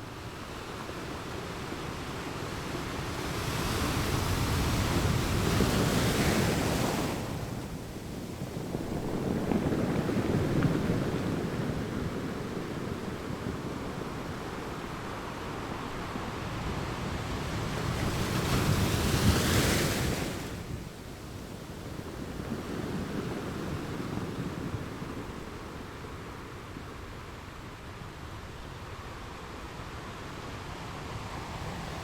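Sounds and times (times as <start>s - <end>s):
ocean waves washing on shore: 0.0s - 32.0s.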